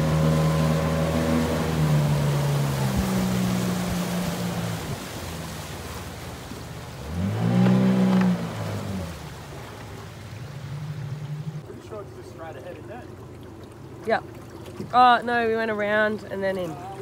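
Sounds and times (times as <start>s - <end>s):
water hissing along hull: 0.0s - 15.6s
outboard motor running: 0.0s - 17.0s.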